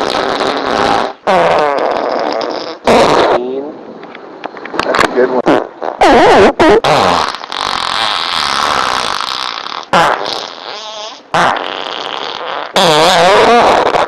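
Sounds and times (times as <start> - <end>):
farts: 0.0 - 3.5, 5.4 - 14.0.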